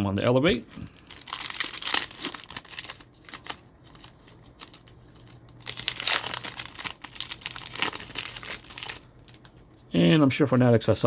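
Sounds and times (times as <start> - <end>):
card pack wrappers crinkling: 0.7 - 9.8.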